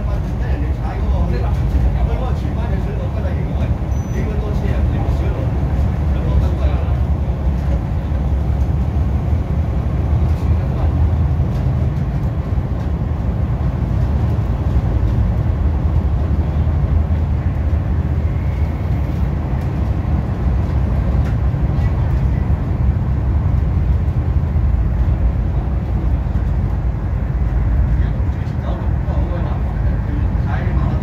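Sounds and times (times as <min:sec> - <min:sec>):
train rumbling inside carriage: 0:00.0 - 0:31.0.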